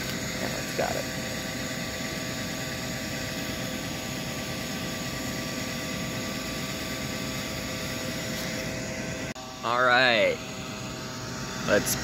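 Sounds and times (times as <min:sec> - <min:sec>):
air rushing through burning charcoal: 0:00.0 - 0:12.0
fan motor whine: 0:00.0 - 0:12.0.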